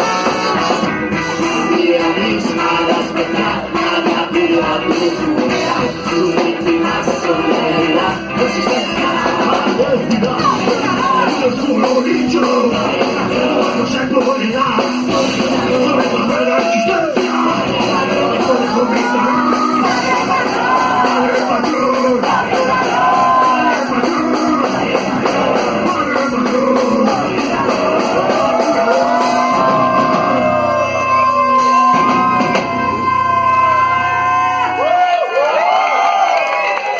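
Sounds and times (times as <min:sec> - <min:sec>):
live rock band: 0:00.0 - 0:36.9
shouted singing: 0:01.4 - 0:36.9.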